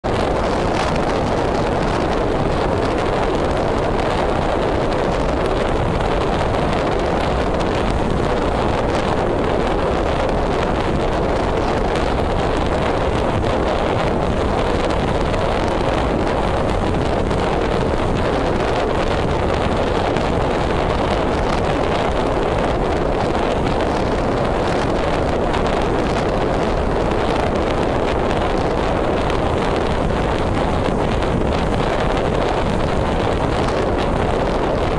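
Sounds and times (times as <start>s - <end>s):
wind on microphone: 0.0s - 34.9s.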